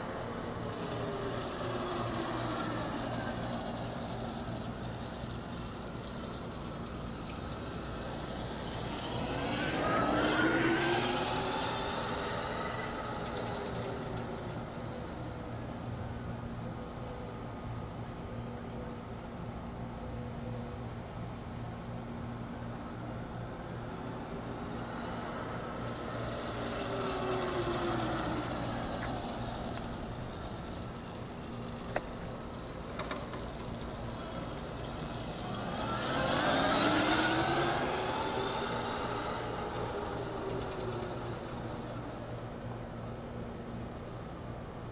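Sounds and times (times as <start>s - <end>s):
chain and tyre noise: 0.0s - 17.4s, 23.0s - 44.4s
electric motorcycle whine: 0.0s - 19.2s, 22.4s - 44.4s.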